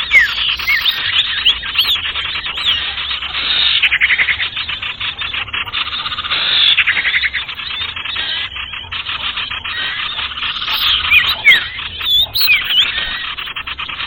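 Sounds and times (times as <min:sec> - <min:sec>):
birds chattering and twittering: 0:00.0 - 0:14.0.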